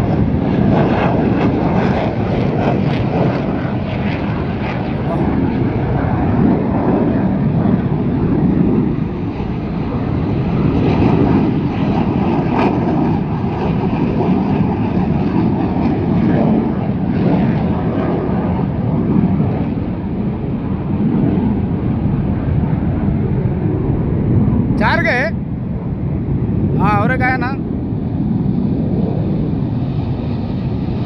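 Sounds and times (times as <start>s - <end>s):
aircraft engines rumbling: 0.0s - 31.0s.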